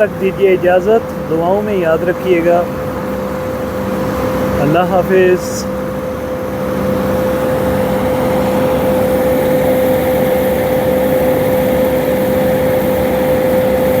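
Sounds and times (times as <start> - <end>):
engine running steadily: 0.0 - 14.0
steady hum: 0.0 - 14.0.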